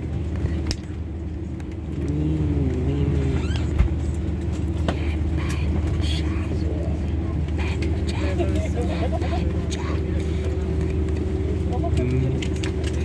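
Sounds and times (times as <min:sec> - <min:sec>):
aircraft cabin air drone: 0:00.0 - 0:13.0.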